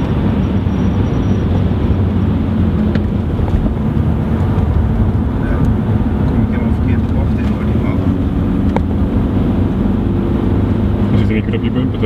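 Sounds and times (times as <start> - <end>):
car engine droning in cabin: 0.0 - 12.0.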